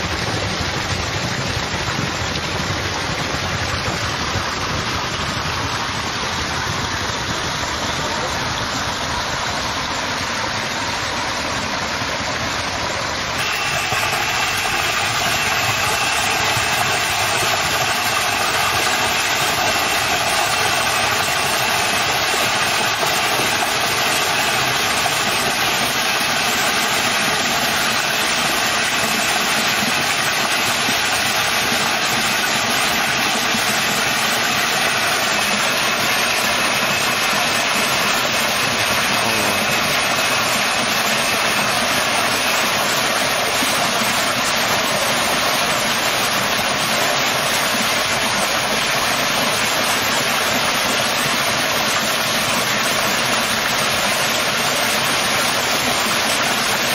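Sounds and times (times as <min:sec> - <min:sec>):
turbine and generator whine: 0:00.0 - 0:56.9
water gushing from pipes: 0:00.0 - 0:56.9.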